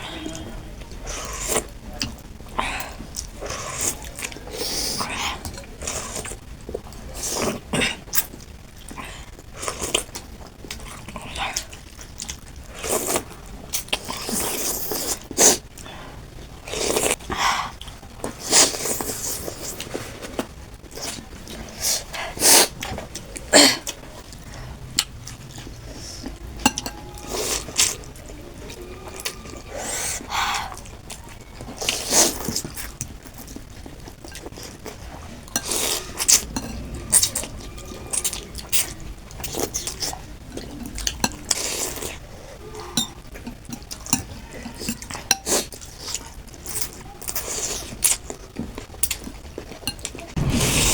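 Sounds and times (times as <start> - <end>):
chewing: 0.4 - 50.9.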